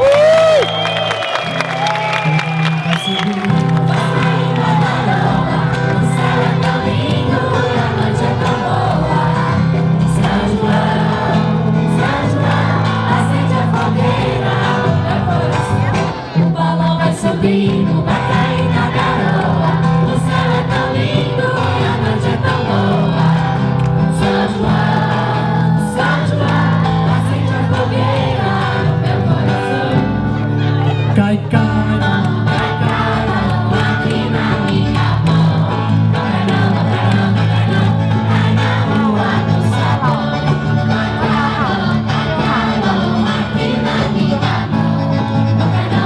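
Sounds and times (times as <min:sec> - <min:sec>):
group of people singing: 0:00.0 - 0:46.0.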